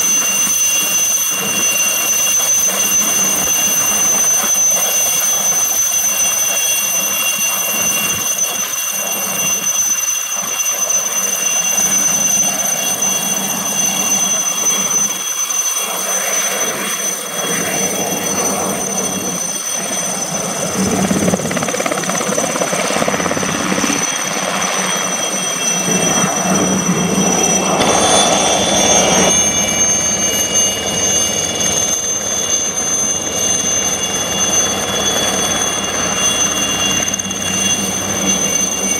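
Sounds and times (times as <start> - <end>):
helicopter rotors rushing: 0.0 - 38.9
helicopter turbine whine: 0.0 - 38.9.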